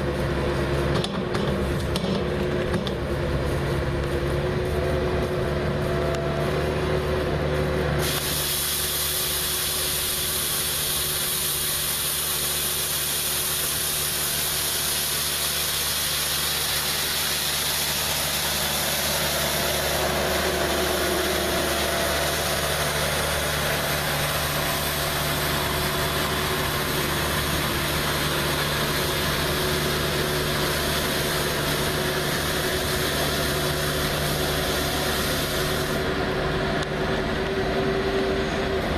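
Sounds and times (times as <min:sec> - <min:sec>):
skid steer engine running: 0:00.0 - 0:38.9
broom bristles hissing: 0:03.0 - 0:36.4.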